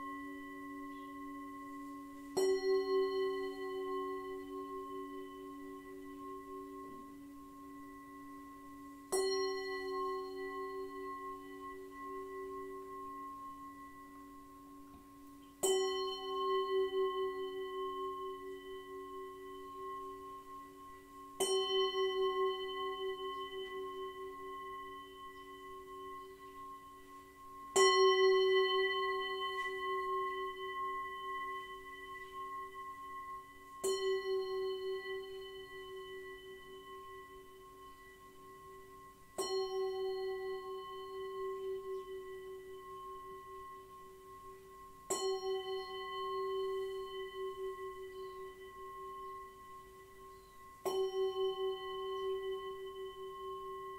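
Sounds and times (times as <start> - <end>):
low bowl tone ringing: 0.0 - 53.9
singing bowl struck: 0.0 - 53.9.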